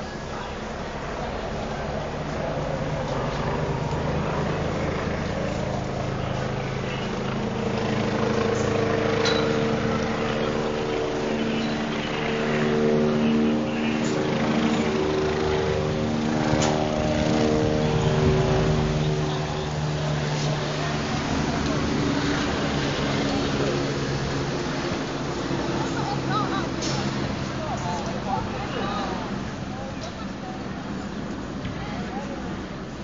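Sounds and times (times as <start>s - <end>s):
motor engine drone: 0.0s - 29.5s.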